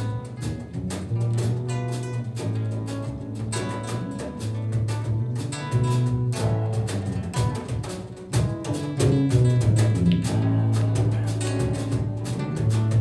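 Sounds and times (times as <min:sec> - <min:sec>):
acoustic guitar: 0:00.0 - 0:13.0
electric bass guitar: 0:00.0 - 0:13.0
hand drum: 0:00.0 - 0:13.0.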